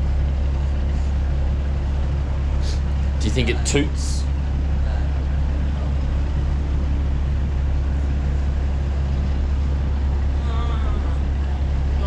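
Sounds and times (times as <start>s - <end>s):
boat engine hum: 0.0s - 12.0s.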